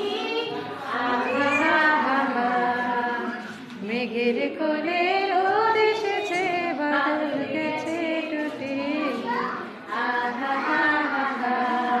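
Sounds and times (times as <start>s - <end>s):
children and woman singing: 0.0s - 12.0s.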